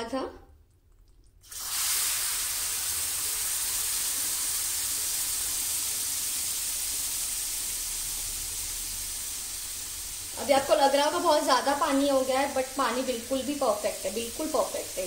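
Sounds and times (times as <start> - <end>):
sugar water sizzling in hot pan: 1.4 - 15.0.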